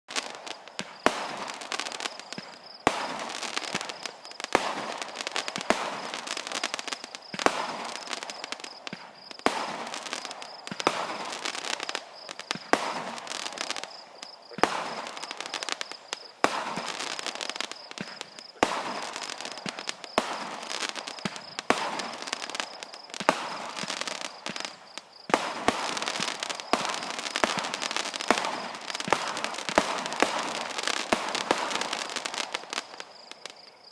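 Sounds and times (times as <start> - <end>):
fireworks bangs: 0.1 - 33.9
fireworks crackling: 0.1 - 33.9.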